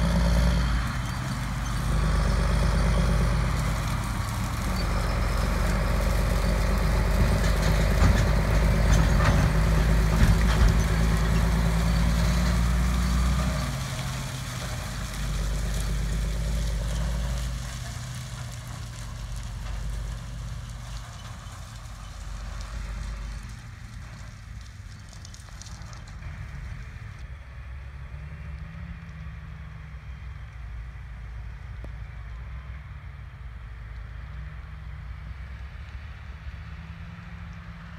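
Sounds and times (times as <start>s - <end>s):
diesel engine running: 0.0s - 32.3s.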